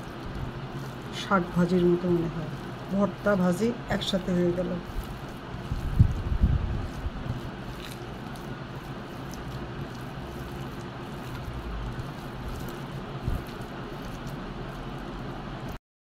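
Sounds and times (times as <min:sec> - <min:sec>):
steady low hum: 0:00.0 - 0:15.8
wet squishing of mashed leaves: 0:00.0 - 0:15.8.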